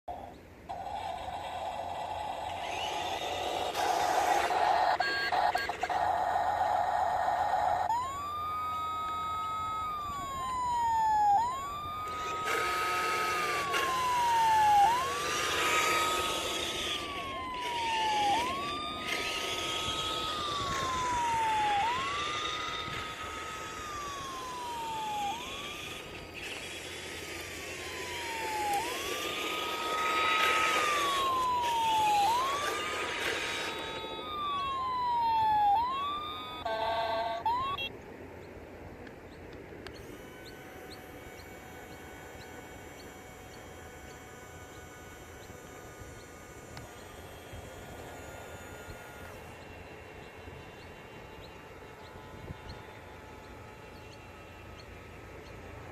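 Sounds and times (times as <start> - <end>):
rushing whirring noise: 0.0 - 55.9
two-tone siren wail: 0.1 - 37.9, 39.9 - 55.9.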